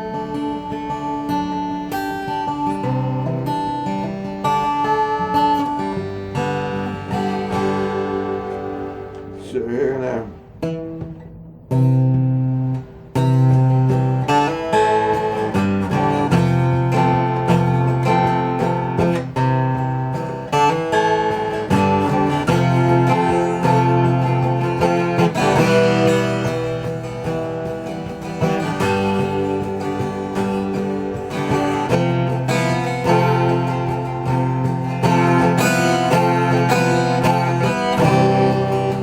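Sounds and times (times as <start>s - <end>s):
acoustic guitar strumming chords: 0.0s - 39.0s.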